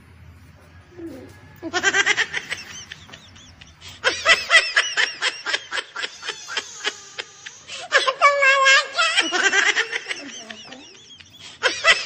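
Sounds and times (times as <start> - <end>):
high-pitched cackling laughter: 1.5 - 12.0.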